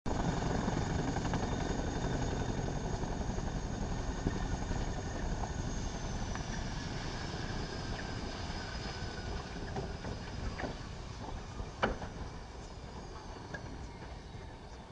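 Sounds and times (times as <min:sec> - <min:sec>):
helicopter rotor and engine noise: 0:00.1 - 0:14.9.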